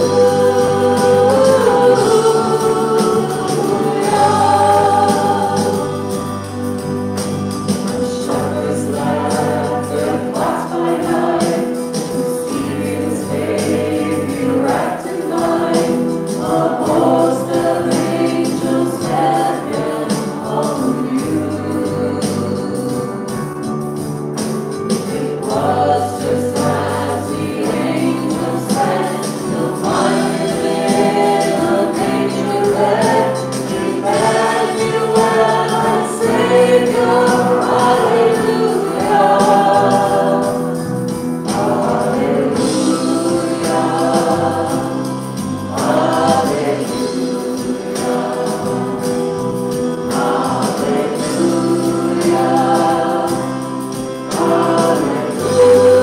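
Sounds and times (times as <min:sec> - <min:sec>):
women singing in harmony: 0:00.0 - 0:07.0, 0:08.0 - 0:23.4, 0:25.0 - 0:56.0
band with keyboard guitar drums: 0:00.0 - 0:56.0.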